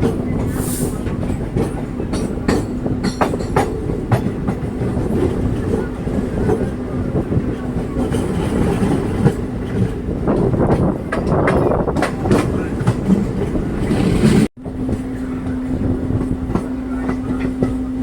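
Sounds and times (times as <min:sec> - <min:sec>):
train coach rumbling: 0:00.0 - 0:18.0
wheels clicking over rail joints: 0:00.0 - 0:18.0.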